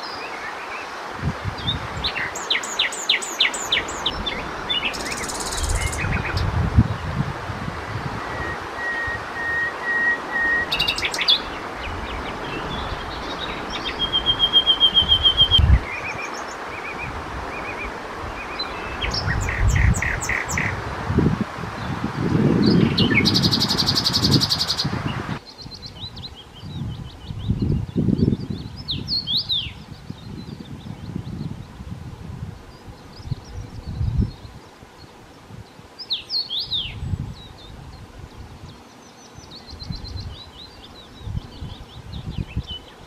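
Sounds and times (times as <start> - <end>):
nightingale singing: 0.0 - 7.0, 7.9 - 20.8, 21.8 - 31.9, 32.6 - 43.0.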